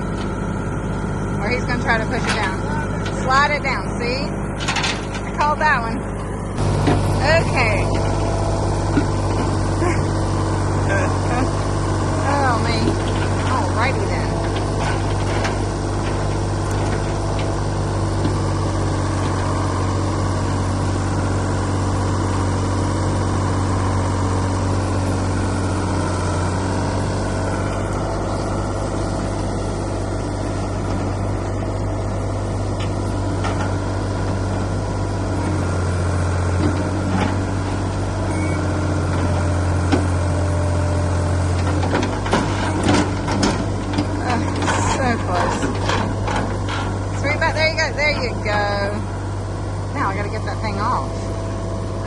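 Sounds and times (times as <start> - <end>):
backhoe engine running: 0.0 - 52.0.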